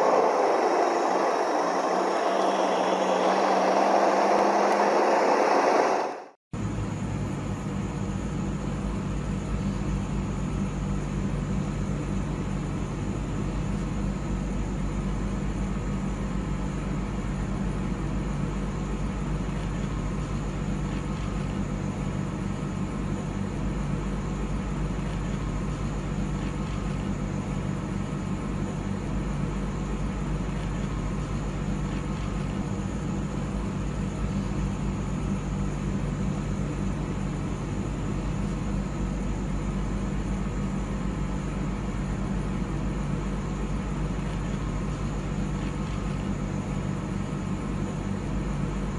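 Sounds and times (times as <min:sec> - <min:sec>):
low hum of traffic engines: 0:00.0 - 0:48.9.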